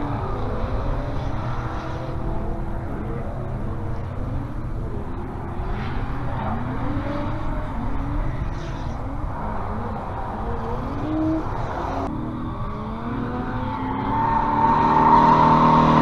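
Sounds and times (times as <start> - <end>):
car engines revving past: 0.0 - 16.0.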